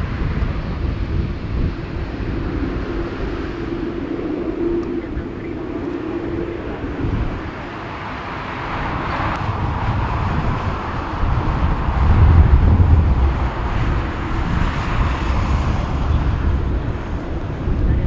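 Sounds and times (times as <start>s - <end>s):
jet engine noise: 0.0s - 18.0s
wind buffeting microphone: 0.0s - 18.0s.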